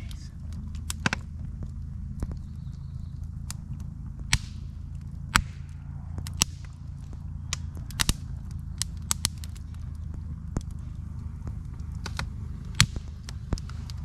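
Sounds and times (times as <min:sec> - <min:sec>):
campfire crackling and popping: 0:00.0 - 0:14.0
steady low rumble: 0:00.0 - 0:14.0.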